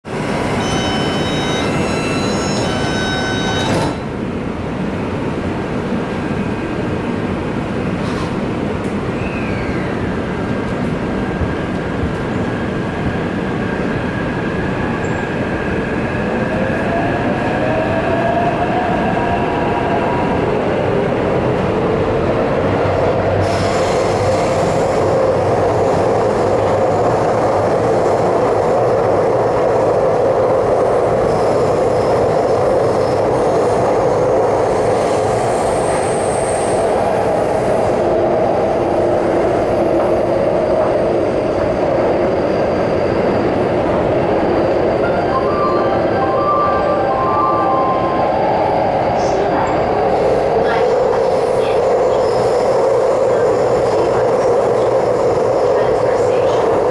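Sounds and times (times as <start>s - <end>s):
subway train wheels rumbling: 0.0s - 56.9s.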